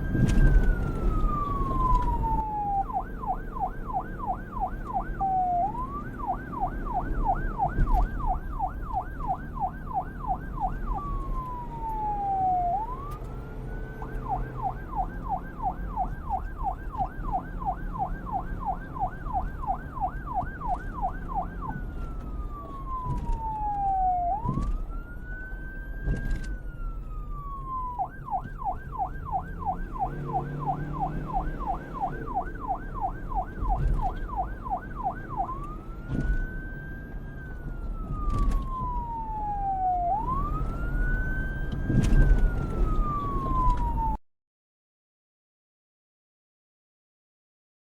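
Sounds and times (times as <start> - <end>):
low traffic rumble: 0.0 - 44.2
police siren yelp and wail: 0.0 - 44.2.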